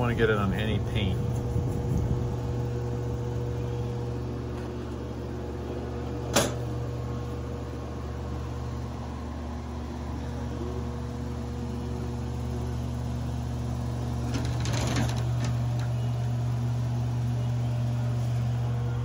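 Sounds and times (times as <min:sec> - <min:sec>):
air conditioner motor hum: 0:00.0 - 0:19.0.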